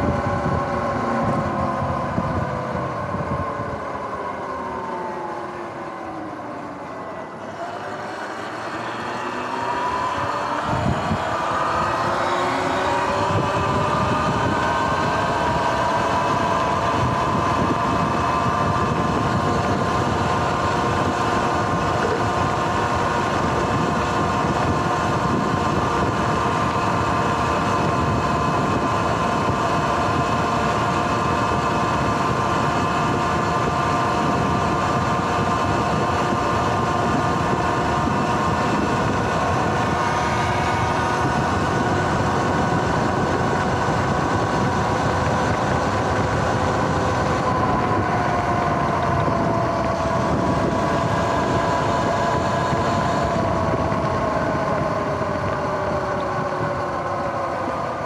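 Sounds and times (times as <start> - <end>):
electric motor whine: 0.0 - 58.0
tyres on asphalt: 0.0 - 58.0
wind noise: 0.0 - 58.0.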